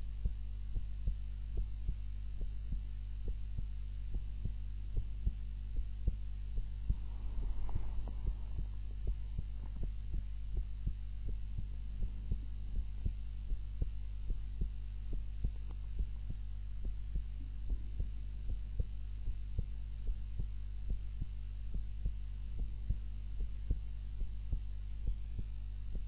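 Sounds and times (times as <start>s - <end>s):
constant low hum: 0.0s - 26.0s
heartbeat thumps: 0.0s - 26.0s
soft noise: 0.0s - 26.0s.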